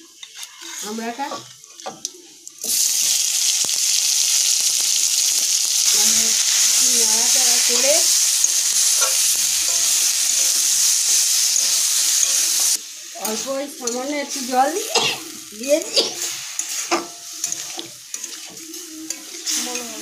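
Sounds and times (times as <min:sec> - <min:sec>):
food sizzling in hot oil: 0:00.0 - 0:20.0
spatula scraping a pan: 0:00.1 - 0:02.4, 0:05.8 - 0:20.0.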